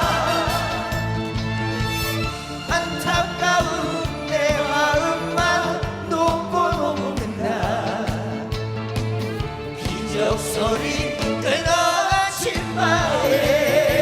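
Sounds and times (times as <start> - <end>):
trot song with band: 0.0 - 14.0.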